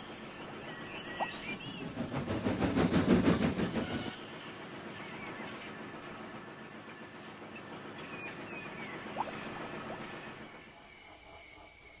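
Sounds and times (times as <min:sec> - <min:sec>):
steam locomotive running: 0:00.0 - 0:12.0.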